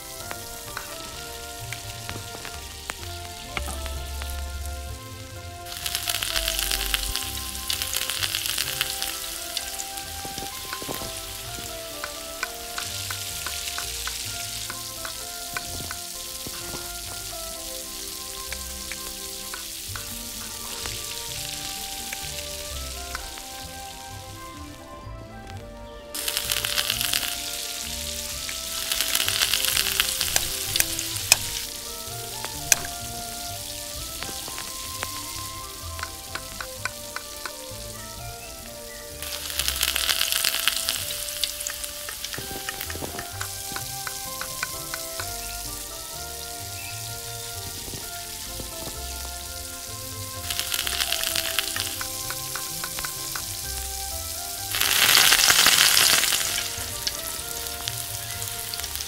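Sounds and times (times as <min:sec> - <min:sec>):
food sizzling in hot oil: 0:05.6 - 0:24.1, 0:26.2 - 0:36.4, 0:39.0 - 0:59.0.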